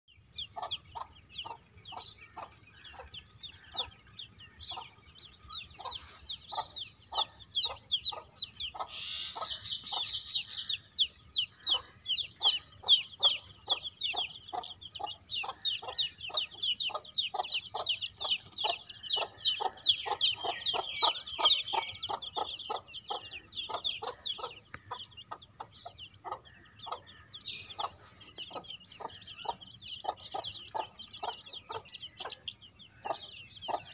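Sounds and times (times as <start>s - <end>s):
chicks peeping: 0.1s - 33.9s
hen clucking: 0.4s - 33.9s.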